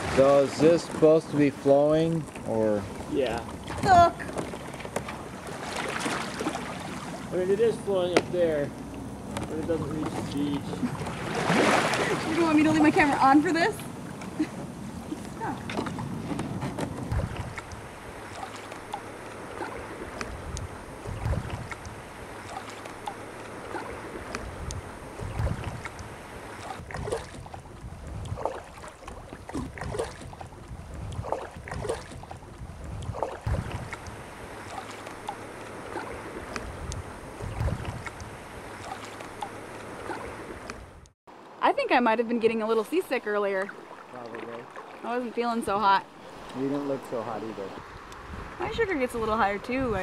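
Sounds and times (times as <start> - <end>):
wind buffeting microphone: 0.0 - 18.4, 19.3 - 22.6, 23.6 - 34.8, 35.7 - 41.1, 45.1 - 50.0
kayak paddle strokes: 0.0 - 41.0, 43.6 - 46.8
water lapping against hull: 0.0 - 50.0.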